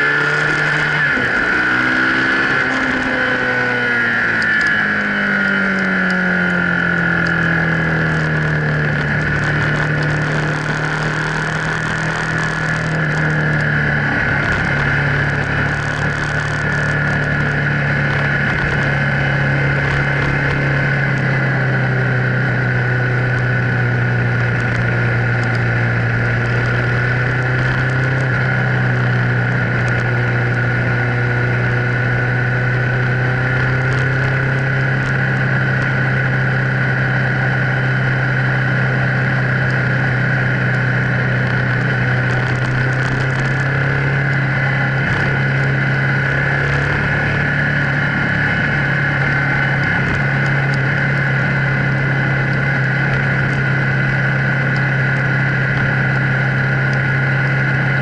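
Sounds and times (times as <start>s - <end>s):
car engine droning: 0.0s - 58.0s
wind noise: 0.0s - 58.0s.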